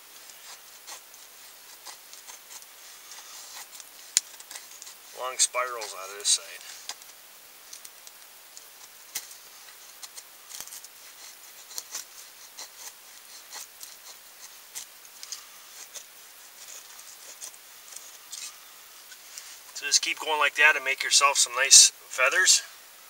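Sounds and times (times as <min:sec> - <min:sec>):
knife scraping wood: 0:00.2 - 0:07.2, 0:07.8 - 0:19.8.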